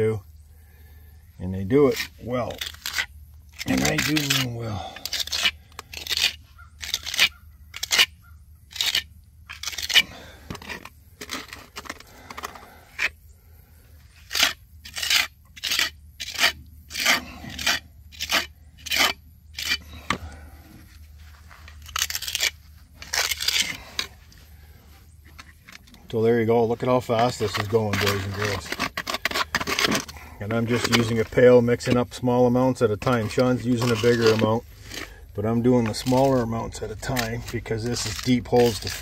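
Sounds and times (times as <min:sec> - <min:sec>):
trowel scraping mortar: 0:01.6 - 0:13.2, 0:14.1 - 0:24.3, 0:25.2 - 0:39.0.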